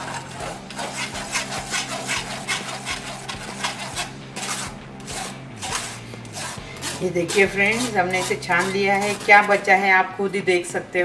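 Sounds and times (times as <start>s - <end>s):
spoon scraping a mesh strainer: 0.0s - 9.9s.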